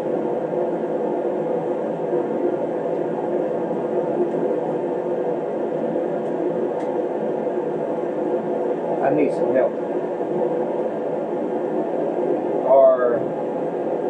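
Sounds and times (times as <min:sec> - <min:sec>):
space heater blowing: 0:00.0 - 0:14.0.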